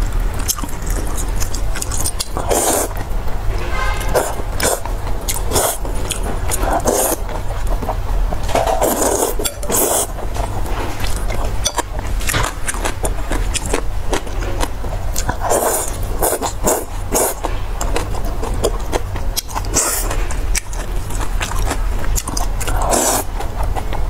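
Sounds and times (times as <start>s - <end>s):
low hum: 0.0s - 24.0s
chewing and mouth smacks: 0.4s - 3.1s, 4.6s - 24.0s.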